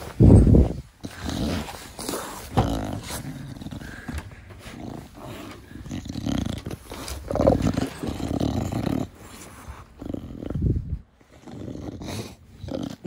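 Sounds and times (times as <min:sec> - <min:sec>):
dog snorting and snuffling: 0:00.0 - 0:13.0.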